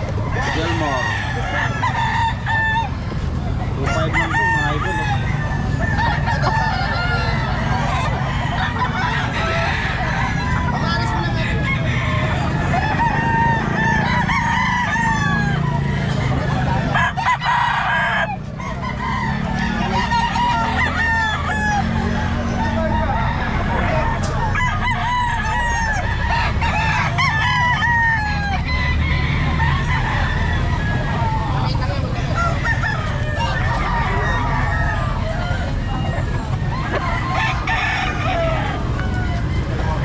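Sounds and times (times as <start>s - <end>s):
roosters crowing and clucking: 0.0s - 40.0s.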